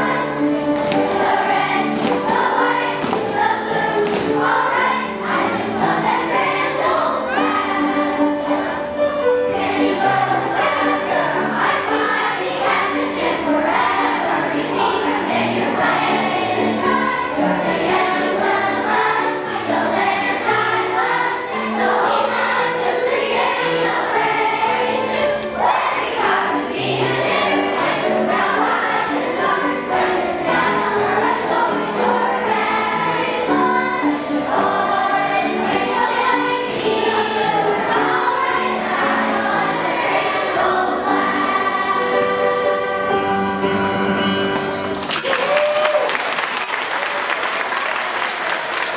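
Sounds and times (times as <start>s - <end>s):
children's choir singing: 0.0s - 45.0s, 46.2s - 48.9s.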